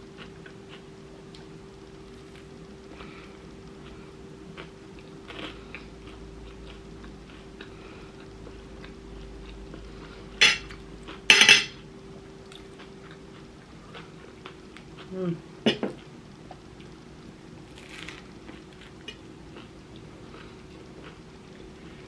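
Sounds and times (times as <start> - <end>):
faint chewing: 2.1 - 11.3, 12.2 - 15.3, 16.0 - 22.0.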